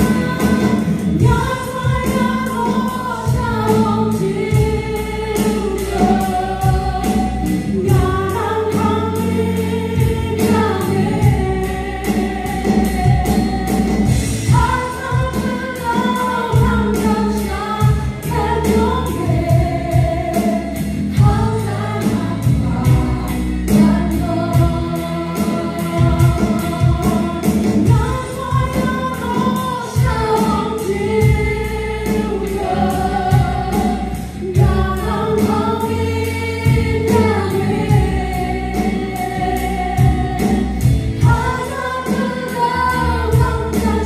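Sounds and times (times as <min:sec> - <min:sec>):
acoustic guitar: 0:00.0 - 0:44.0
backing singers: 0:00.0 - 0:44.0
bass guitar: 0:00.0 - 0:44.0
drums steady beat: 0:00.0 - 0:44.0
woman singing lead: 0:00.0 - 0:44.0.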